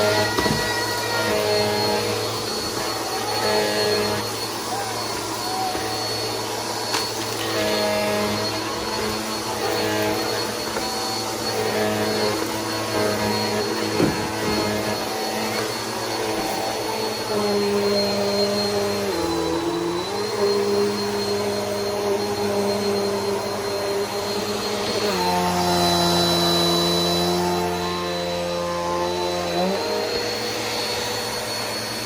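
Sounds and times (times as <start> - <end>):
vacuum cleaner motor humming: 0.0 - 32.0.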